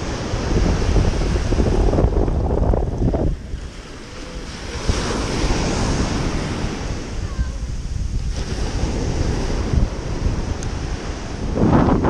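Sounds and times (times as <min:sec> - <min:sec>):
surf waves breaking on sand: 0:00.0 - 0:12.0
wind buffeting microphone: 0:00.0 - 0:12.0.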